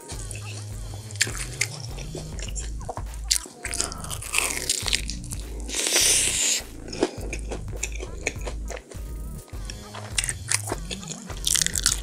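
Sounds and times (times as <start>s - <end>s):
crunching bites into fried food: 0.0s - 2.7s, 3.3s - 9.0s, 9.6s - 12.0s
chewing: 0.0s - 12.0s
fried crust crackling: 0.0s - 12.0s.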